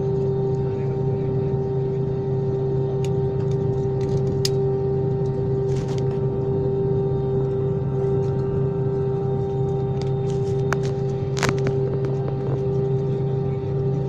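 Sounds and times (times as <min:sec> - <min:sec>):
constant hum tone: 0:00.0 - 0:14.0
jet engines droning: 0:00.0 - 0:14.0.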